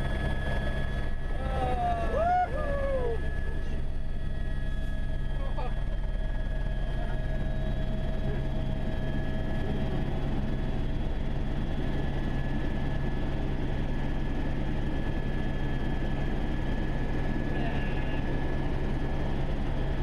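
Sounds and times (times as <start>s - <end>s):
engine whine: 0.0s - 20.0s
helicopter rotor and engine drone: 0.0s - 20.0s.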